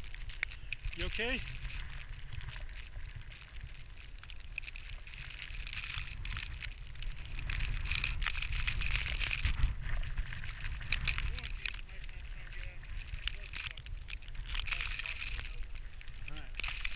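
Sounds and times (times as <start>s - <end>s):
wind rumble on microphone: 0.0s - 16.9s.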